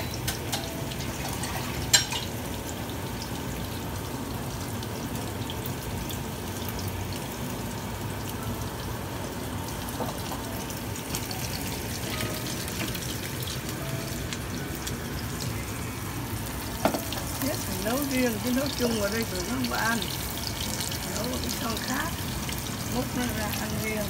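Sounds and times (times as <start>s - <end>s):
patties sizzling in oil: 0.0s - 24.0s.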